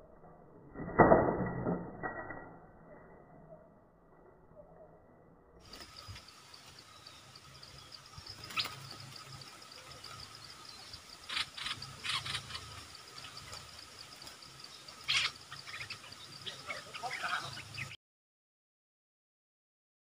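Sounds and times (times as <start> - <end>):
forest insect drone: 1.8 - 18.0.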